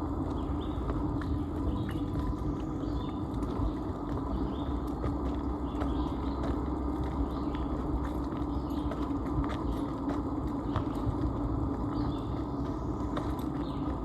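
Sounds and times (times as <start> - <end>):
footsteps crunching on rocky trail: 0.0 - 14.0.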